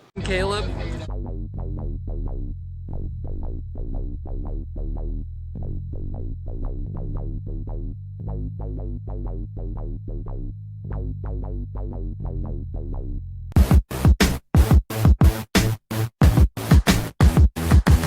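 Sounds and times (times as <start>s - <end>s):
steady low bass: 0.2s - 18.0s.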